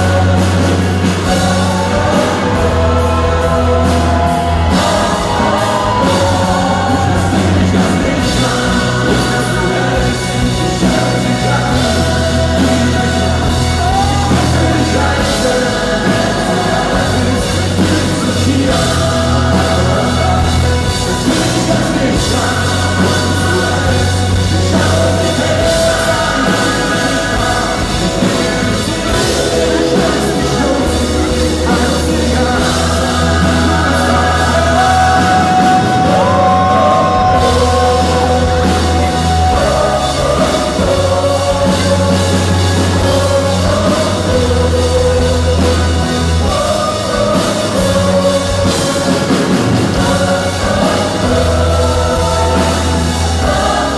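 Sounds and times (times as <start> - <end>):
bass guitar: 0.0 - 53.9
choir singing: 0.0 - 53.9
drums: 0.0 - 53.9
electric guitar: 0.0 - 53.9
lead singer: 0.0 - 53.9.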